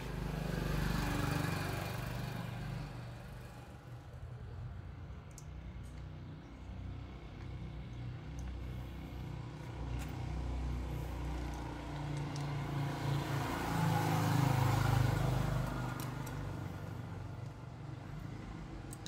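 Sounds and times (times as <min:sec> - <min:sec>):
vehicle engine passing by: 0:00.0 - 0:04.0, 0:06.2 - 0:18.9.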